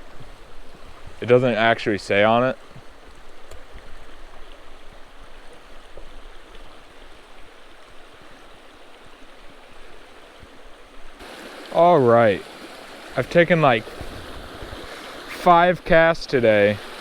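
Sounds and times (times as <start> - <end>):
creek babbling over rocks: 0.0 - 17.0.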